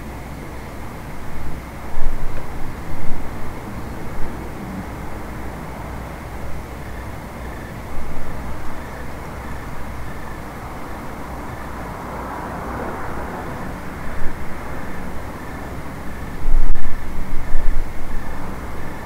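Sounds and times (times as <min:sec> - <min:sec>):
crickets chirping: 0:00.0 - 0:19.0
distant vehicles rumbling: 0:00.0 - 0:19.0.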